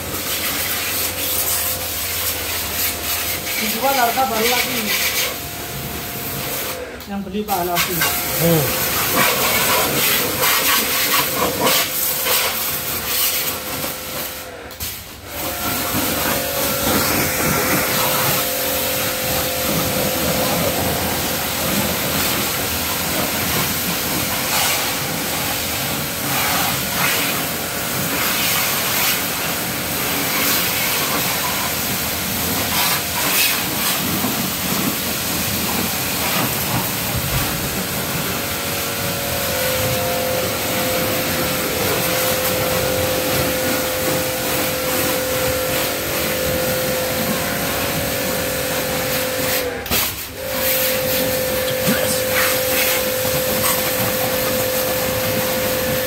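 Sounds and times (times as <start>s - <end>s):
steady hum: 0.0s - 28.3s, 31.8s - 56.0s
pressure washer spraying water: 0.0s - 56.0s.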